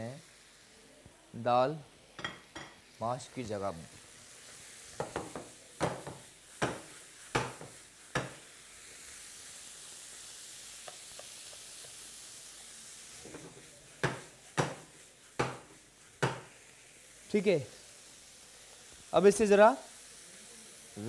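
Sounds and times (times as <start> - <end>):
food sizzling in pan: 0.0 - 21.0
spatula strokes against pan: 2.4 - 21.0.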